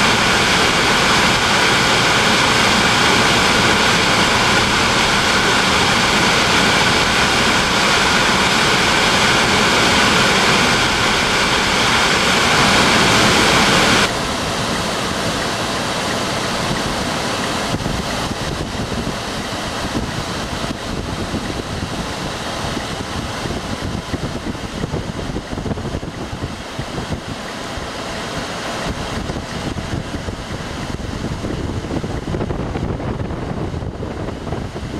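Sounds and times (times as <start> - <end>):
fluttering wind rush: 0.0 - 34.9
road and wind noise in car: 0.0 - 34.9.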